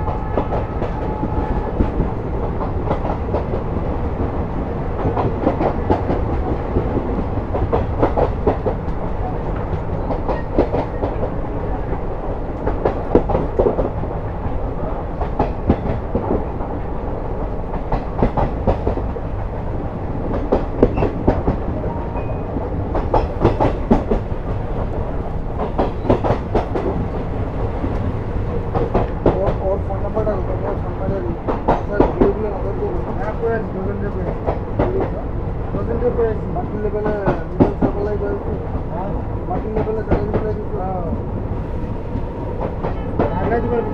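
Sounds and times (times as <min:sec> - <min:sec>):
train rumble: 0:00.0 - 0:43.9.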